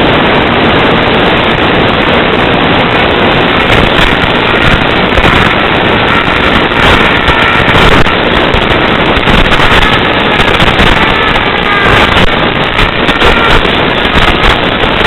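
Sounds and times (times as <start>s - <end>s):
harsh video downlink noise: 0.0s - 15.0s
faint whining tones: 2.8s - 15.0s.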